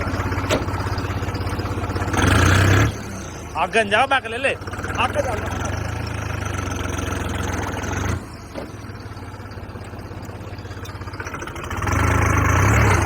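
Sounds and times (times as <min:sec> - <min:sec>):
tractor engine under load: 0:00.0 - 0:13.0.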